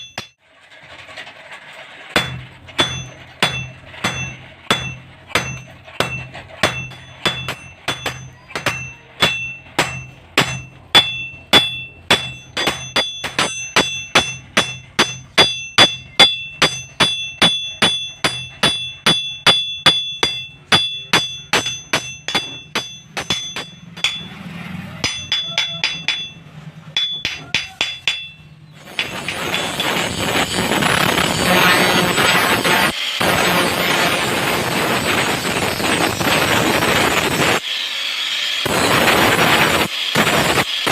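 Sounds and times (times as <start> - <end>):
hammer blows on steel and anvil: 2.1 - 37.8.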